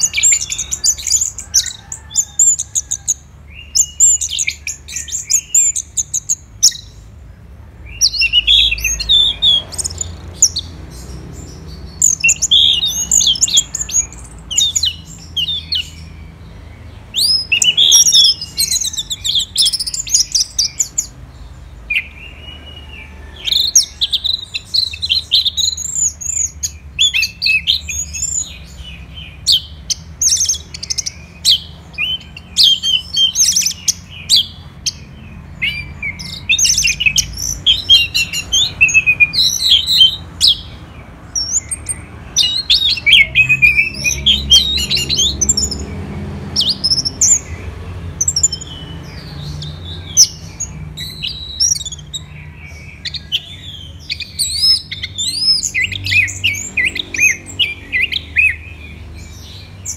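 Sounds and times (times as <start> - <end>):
thrush singing: 0.0 - 59.9.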